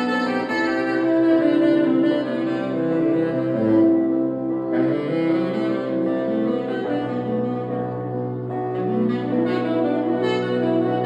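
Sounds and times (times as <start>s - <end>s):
saxophone slow melody: 0.0s - 11.0s.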